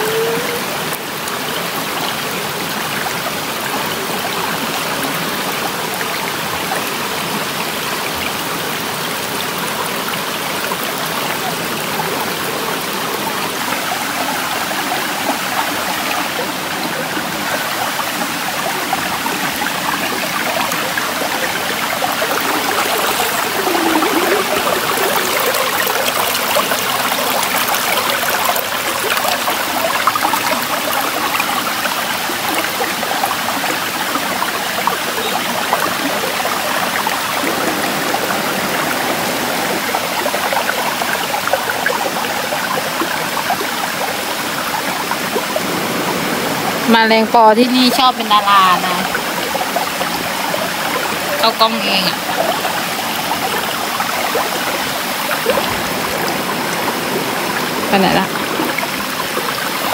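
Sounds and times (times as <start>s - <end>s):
stream water over rocks: 0.0s - 59.9s.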